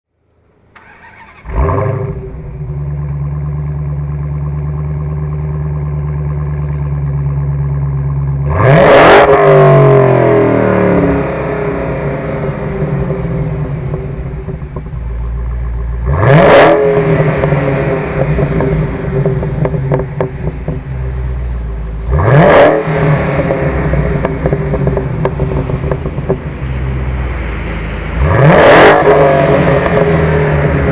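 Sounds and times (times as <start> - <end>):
car engine starting and revving: 0.7 - 30.9.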